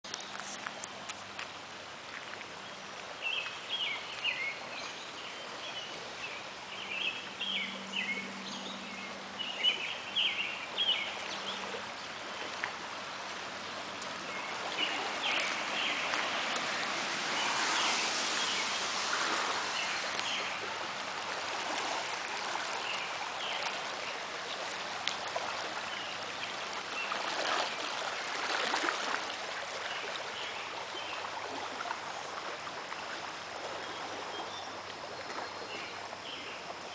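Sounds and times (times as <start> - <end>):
creek water rushing: 0.0 - 36.9.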